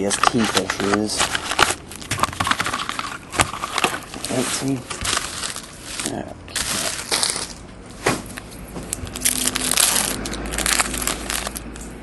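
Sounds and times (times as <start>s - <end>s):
foil wrapper crinkling and tearing: 0.0s - 7.6s, 8.3s - 12.0s.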